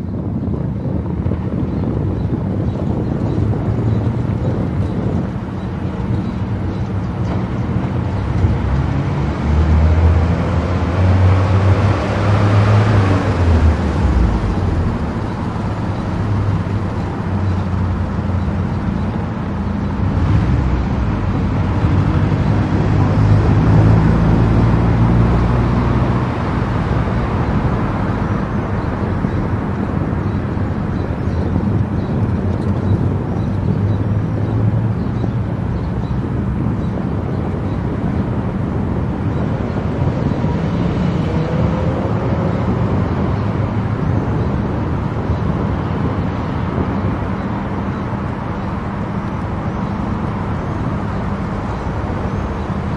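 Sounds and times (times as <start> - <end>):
car road and engine noise: 0.0 - 52.9.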